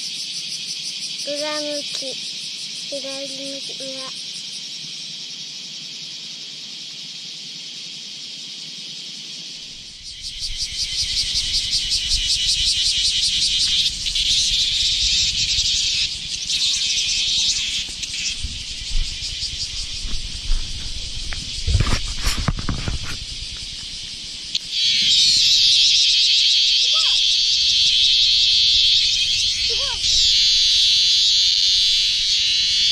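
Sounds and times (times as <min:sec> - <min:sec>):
cicadas buzzing: 0:00.0 - 0:32.9.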